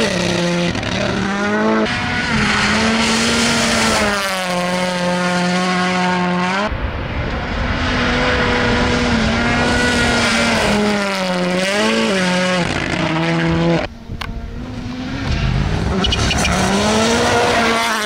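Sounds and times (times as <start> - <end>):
rally car engine at full throttle: 0.0 - 18.0.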